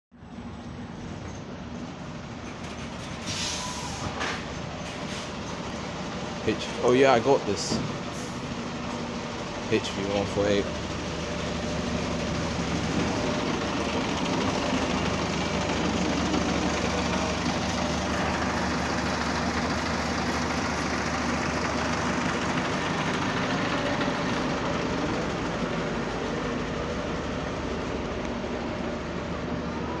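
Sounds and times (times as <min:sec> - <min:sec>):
bus diesel engine idling: 0:00.2 - 0:30.0.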